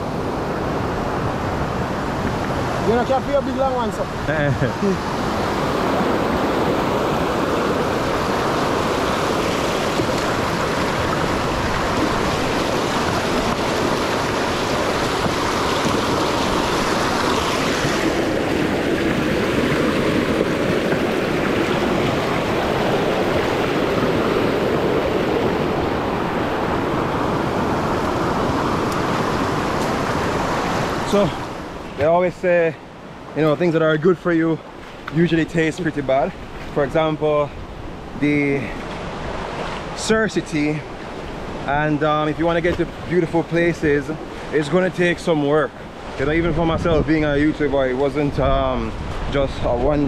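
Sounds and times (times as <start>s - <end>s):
river rapids rushing over boulders: 0.0s - 49.8s.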